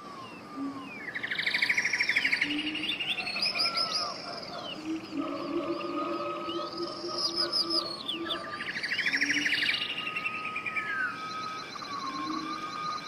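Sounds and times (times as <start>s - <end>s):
bird trill: 0.0s - 13.0s
birds chirping and singing: 0.0s - 13.0s
whistled glides: 0.0s - 13.0s.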